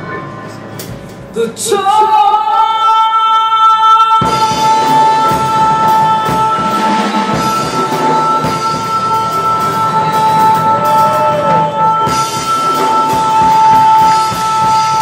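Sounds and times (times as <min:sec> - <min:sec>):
live band accompaniment: 0:00.0 - 0:15.0.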